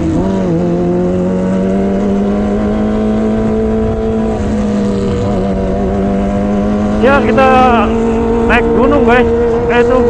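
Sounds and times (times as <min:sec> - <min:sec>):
motorcycle engine at steady revs: 0:00.0 - 0:10.0
wind noise: 0:00.0 - 0:10.0.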